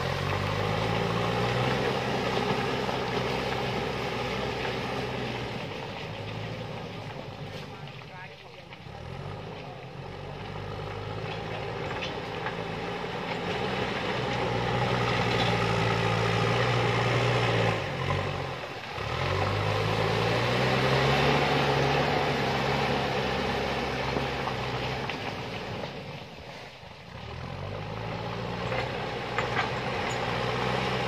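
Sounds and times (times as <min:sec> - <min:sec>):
backhoe diesel engine working: 0:00.0 - 0:31.0.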